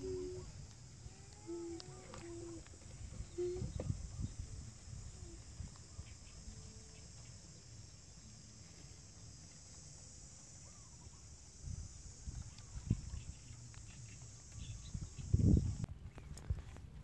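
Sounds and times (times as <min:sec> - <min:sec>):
insects chirring: 0:00.0 - 0:16.6.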